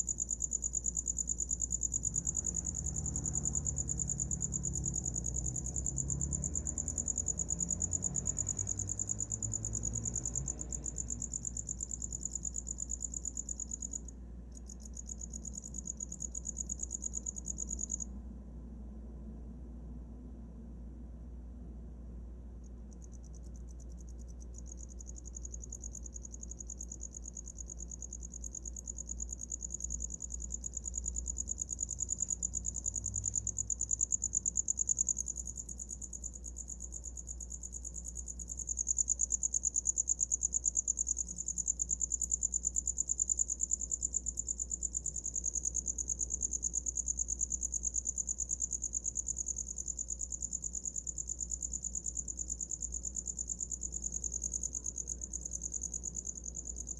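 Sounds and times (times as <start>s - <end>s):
cricket trilling: 0.0s - 18.1s, 22.9s - 56.9s.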